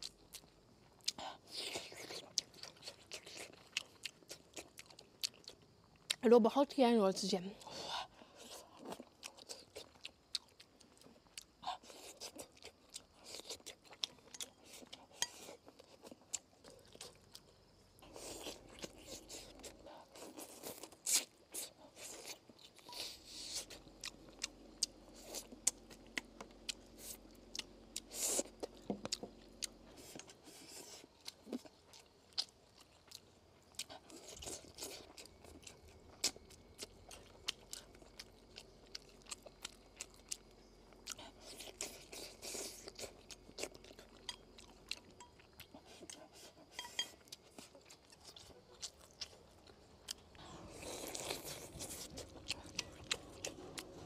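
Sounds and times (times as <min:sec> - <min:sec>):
person chewing food: 0:00.0 - 0:06.2, 0:07.6 - 0:54.0.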